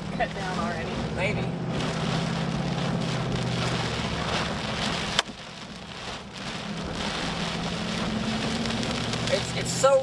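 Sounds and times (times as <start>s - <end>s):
heavy rain on a car: 0.0s - 10.0s
low vehicle hum: 0.0s - 10.0s.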